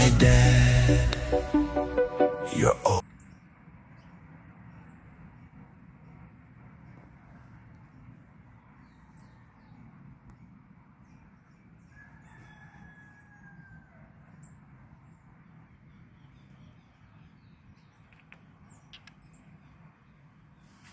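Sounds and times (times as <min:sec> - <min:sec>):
low rumbling background noise: 0:02.6 - 0:20.9.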